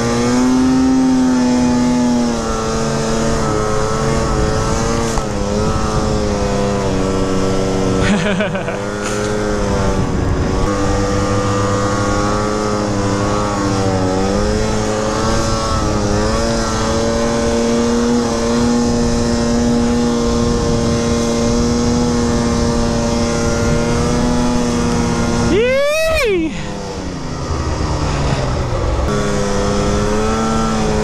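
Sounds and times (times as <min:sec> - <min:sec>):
snowmobile engine revving high: 0:00.0 - 0:31.0
track and wind noise: 0:00.0 - 0:31.0.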